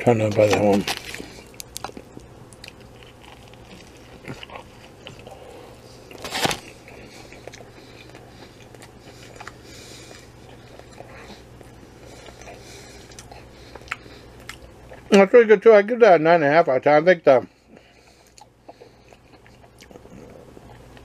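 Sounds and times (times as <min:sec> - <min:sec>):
person chewing close to microphone: 0:00.2 - 0:15.1, 0:17.7 - 0:21.0.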